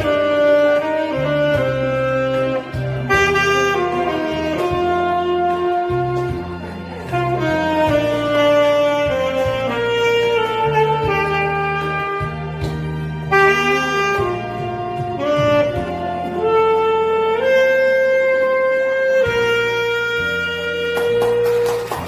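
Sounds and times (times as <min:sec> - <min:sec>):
backing accompaniment: 0:00.0 - 0:22.0
saxophone slow melody: 0:00.0 - 0:22.0.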